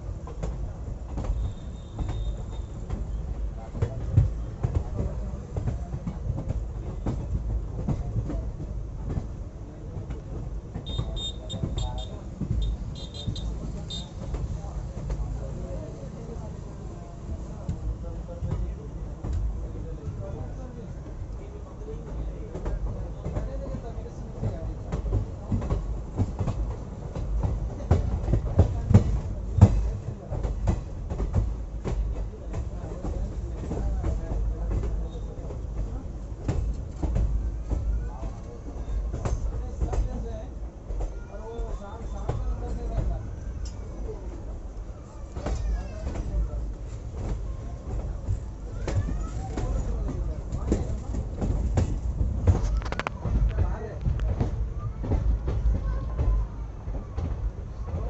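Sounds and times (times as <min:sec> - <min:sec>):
train clattering and knocking: 0:00.0 - 0:58.0
train wheels rumbling on track: 0:00.0 - 0:58.0.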